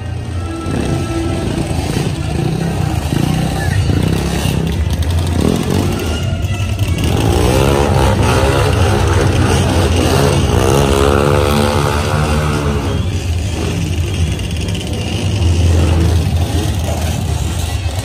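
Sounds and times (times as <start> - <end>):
vehicle engine running loudly: 0.0 - 18.0.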